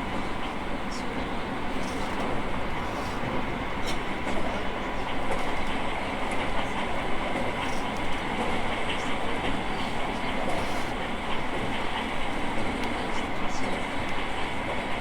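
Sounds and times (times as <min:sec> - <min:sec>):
track clicks: 0:00.0 - 0:15.0
train high whine: 0:00.0 - 0:15.0
train wheels rumbling on rail: 0:00.0 - 0:15.0.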